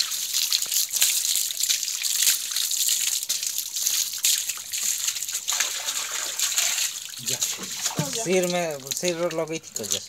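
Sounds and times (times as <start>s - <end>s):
hose water splashing on paving: 0.0s - 10.0s.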